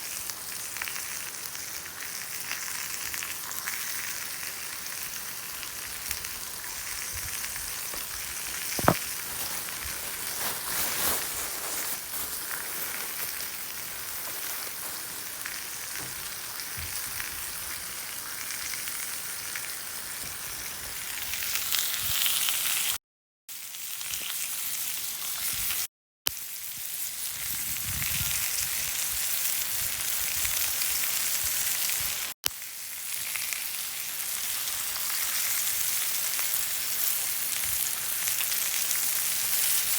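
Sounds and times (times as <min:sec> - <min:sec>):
beef sizzling in a pan: 0:00.0 - 0:39.9.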